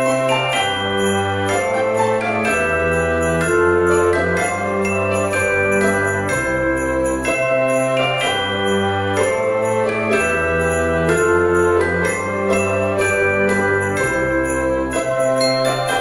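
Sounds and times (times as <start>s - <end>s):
christmas instrumental music: 0.0s - 16.0s
jingle bells shaken: 0.0s - 16.0s.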